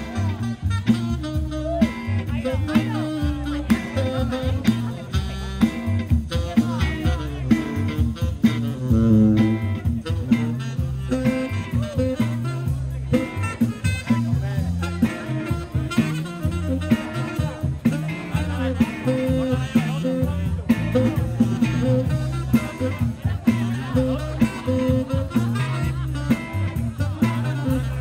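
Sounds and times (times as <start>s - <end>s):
drum kit beat: 0.0s - 28.0s
electric bass line: 0.0s - 28.0s
saxophone melody: 0.0s - 28.0s.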